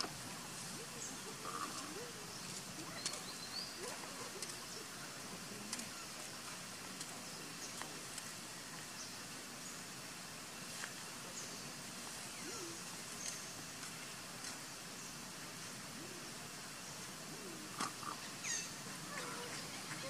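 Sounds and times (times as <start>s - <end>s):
steady forest hiss: 0.0s - 20.0s.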